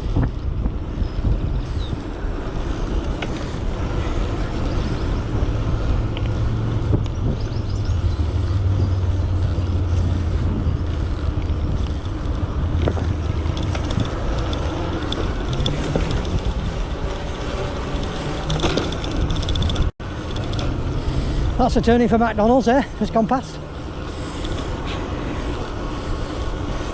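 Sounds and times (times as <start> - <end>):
motor vehicles passing: 0.0 - 26.9
road rumble: 0.0 - 26.9.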